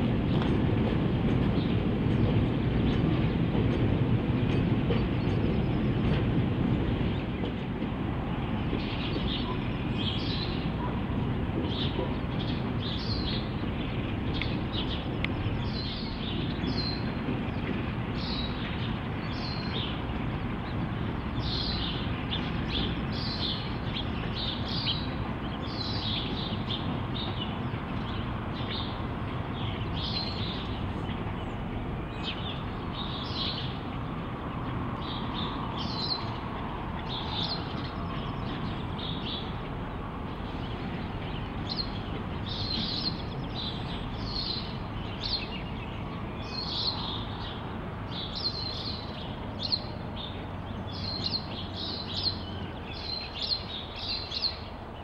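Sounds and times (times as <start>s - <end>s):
diesel train rumbling: 0.0s - 55.0s
small birds chirping: 0.2s - 55.0s.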